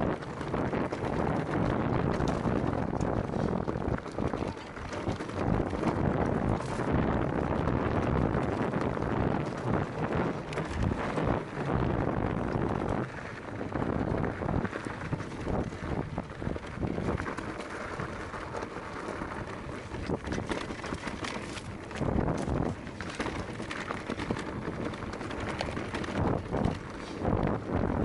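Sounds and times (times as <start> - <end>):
bike knocking and rattling: 0.0 - 28.0
bike tyres rumbling over rocks: 0.0 - 28.0
wind buffeting microphone: 0.0 - 28.0.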